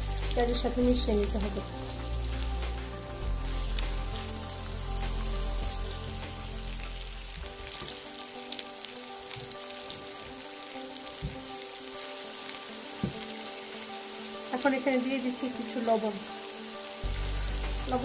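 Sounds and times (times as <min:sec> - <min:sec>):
background music with held tones: 0:00.0 - 0:18.0
onions sizzling in oil: 0:00.0 - 0:18.0.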